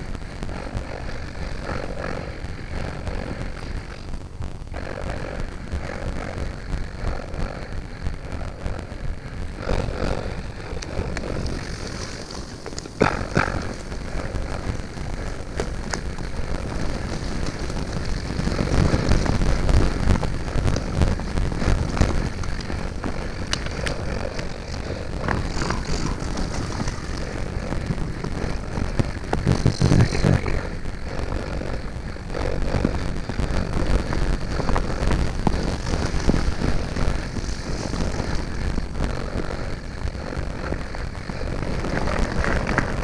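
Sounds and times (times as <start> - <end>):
low rumble of bike riding: 0.0 - 43.0.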